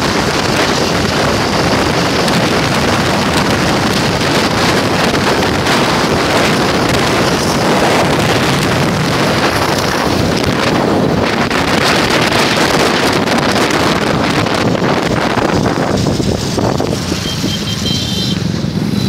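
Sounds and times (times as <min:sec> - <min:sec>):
wind buffeting microphone: 0:00.0 - 0:17.5.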